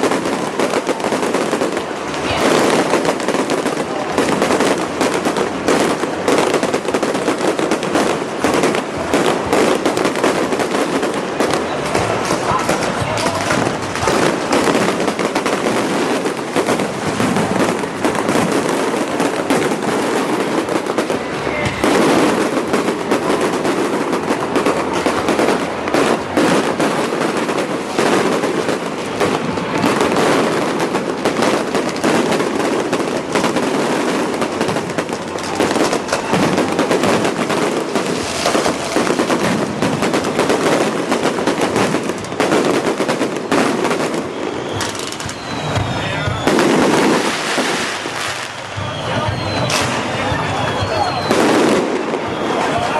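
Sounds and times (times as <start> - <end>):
fireworks barrage of bangs: 0.0 - 52.9.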